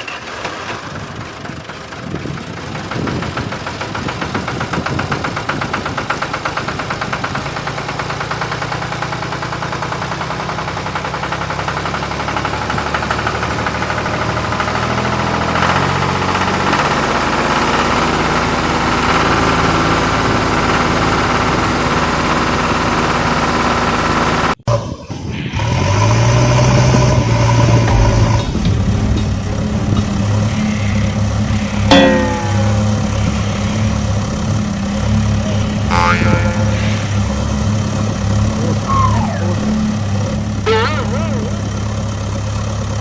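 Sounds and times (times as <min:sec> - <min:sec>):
diesel engine knocking: 0:00.0 - 0:24.6, 0:25.8 - 0:43.0.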